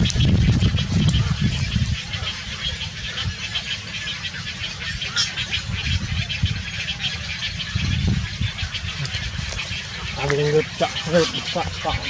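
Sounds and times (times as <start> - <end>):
steady low rumble: 0.0 - 3.6, 5.5 - 12.0
birds chirping rapidly: 0.0 - 12.0.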